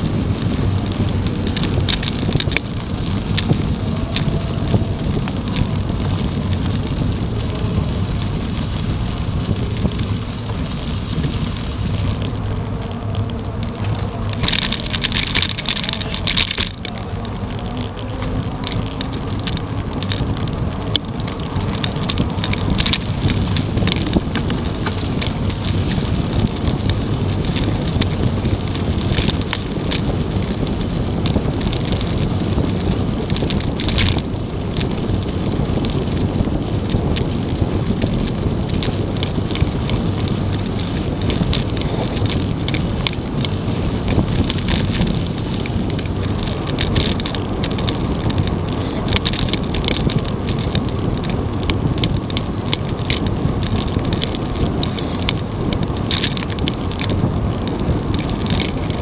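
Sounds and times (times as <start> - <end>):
light ticks and rattles: 0.0 - 59.0
tyres rumbling on pavement: 0.0 - 59.0
wind buffeting microphone: 0.0 - 59.0.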